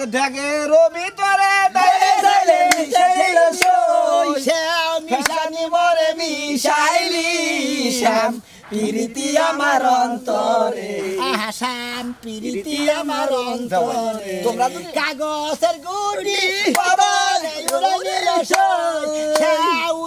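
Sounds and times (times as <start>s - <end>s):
men singing a chant: 0.0s - 20.0s.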